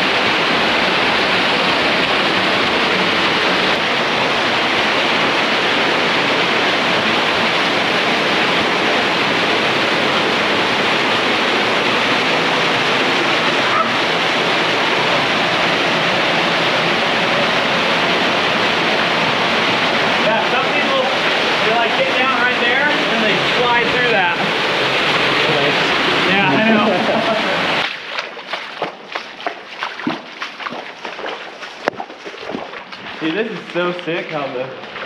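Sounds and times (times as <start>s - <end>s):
small waterfall splashing into pool: 0.0s - 35.0s.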